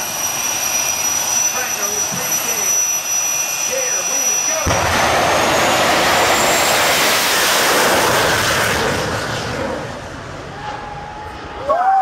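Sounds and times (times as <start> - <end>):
jet dragster roaring: 0.0 - 12.0.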